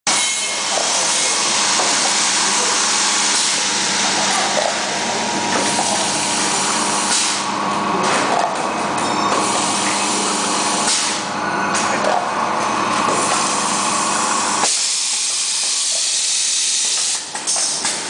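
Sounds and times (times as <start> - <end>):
filling machine running: 0.1 - 18.0.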